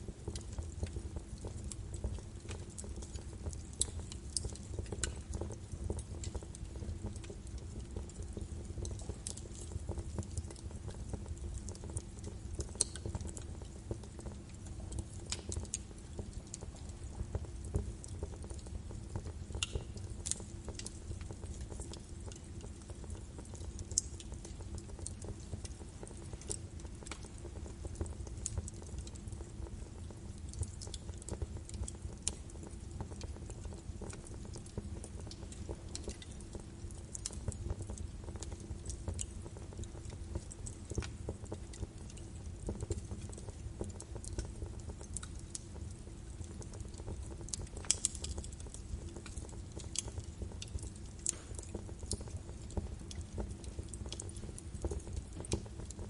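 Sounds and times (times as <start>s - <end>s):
fire burning with crackles: 0.0s - 56.0s.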